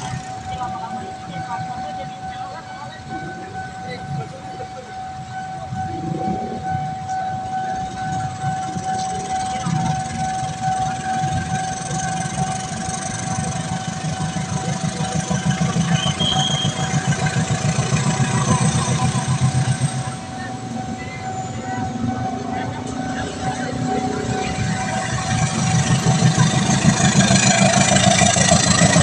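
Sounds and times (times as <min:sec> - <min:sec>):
level crossing alarm tone: 0:00.0 - 0:29.0
train wheels clattering: 0:00.0 - 0:29.0.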